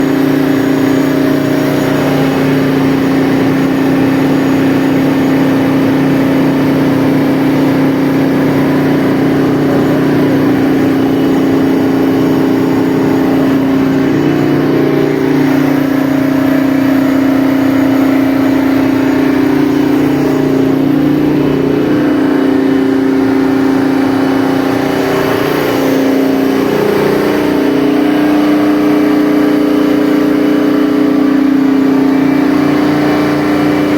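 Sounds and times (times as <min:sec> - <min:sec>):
diesel generator running: 0:00.0 - 0:33.9.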